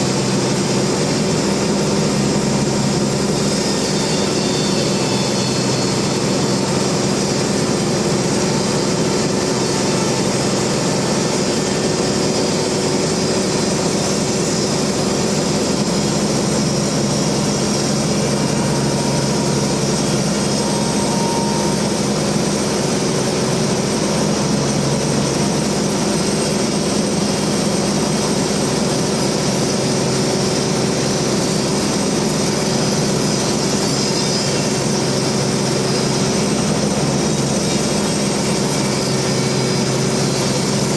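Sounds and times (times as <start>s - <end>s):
sawmill machine drone: 0.0s - 40.9s.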